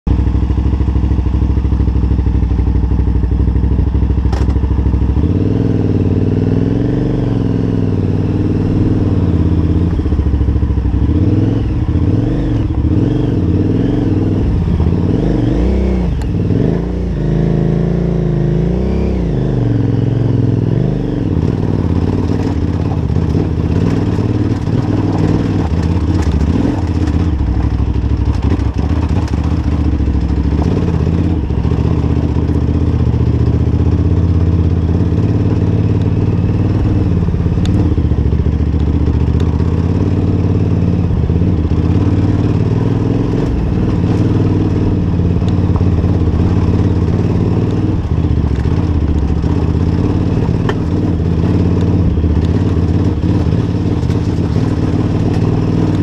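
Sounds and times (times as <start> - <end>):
motorcycle engine revving: 0.1 - 56.0.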